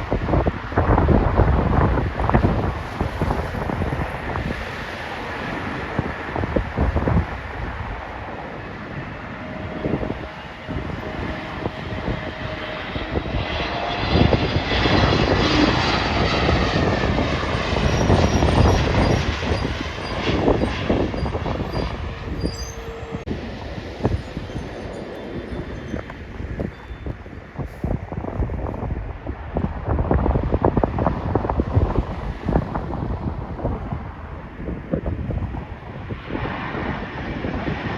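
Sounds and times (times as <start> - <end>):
jet airliner passing over: 0.0 - 37.9
wind buffeting microphone: 0.0 - 37.9.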